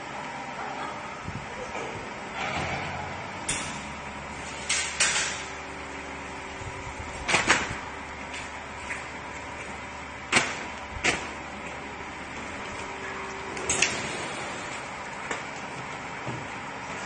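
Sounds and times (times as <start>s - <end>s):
vacuum packaging machine humming: 0.0s - 17.0s.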